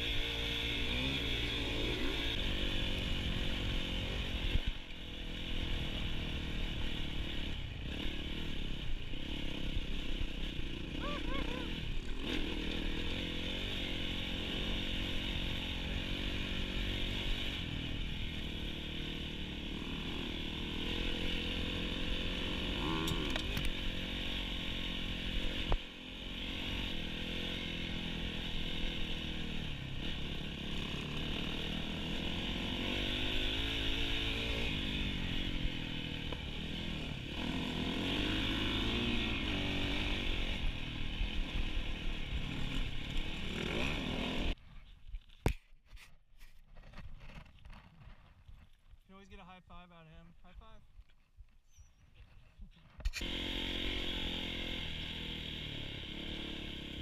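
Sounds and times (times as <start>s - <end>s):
dirt bike engine revving: 0.0s - 44.6s, 53.2s - 57.0s.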